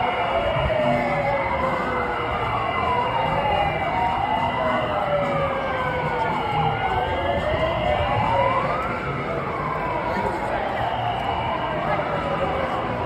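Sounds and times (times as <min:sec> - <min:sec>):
sirens wailing: 0:00.0 - 0:13.0
street and crowd noise: 0:00.0 - 0:13.0.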